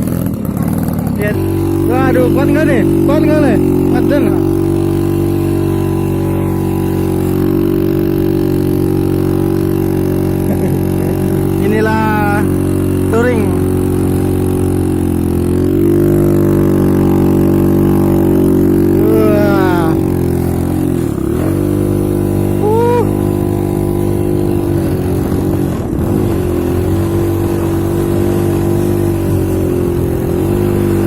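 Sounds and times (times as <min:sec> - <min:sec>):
two-stroke motorcycle engine straining: 0:00.0 - 0:31.0.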